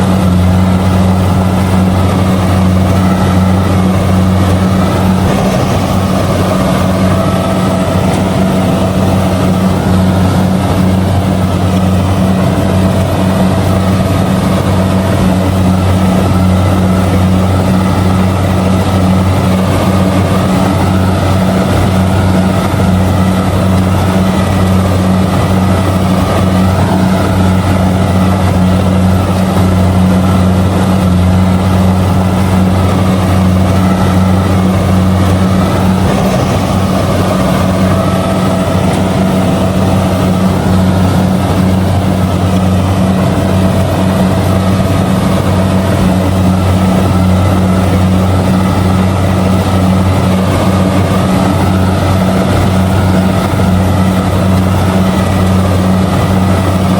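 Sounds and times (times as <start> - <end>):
combine harvester diesel engine: 0.0 - 56.9.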